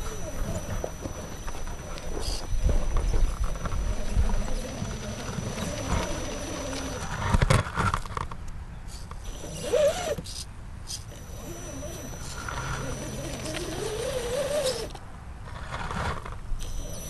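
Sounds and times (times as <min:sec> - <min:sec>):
toy car crunching over rocks: 0:00.0 - 0:08.4, 0:10.9 - 0:17.0.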